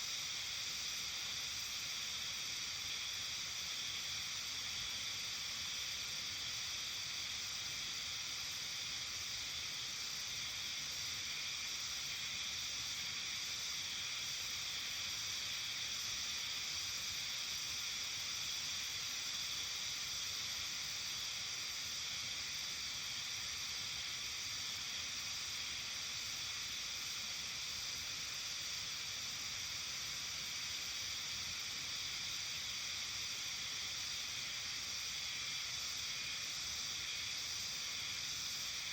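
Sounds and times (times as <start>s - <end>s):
high-pitched nature hiss: 0.0s - 38.9s.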